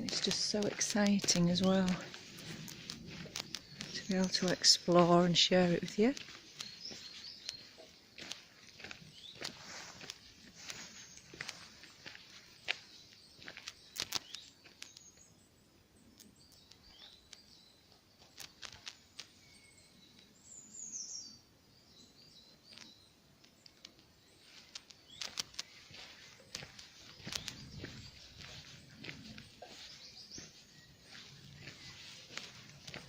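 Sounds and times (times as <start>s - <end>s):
footsteps crunching on forest floor: 0.0s - 15.3s, 16.2s - 20.2s, 23.7s - 33.0s
birds chirping: 0.0s - 33.0s.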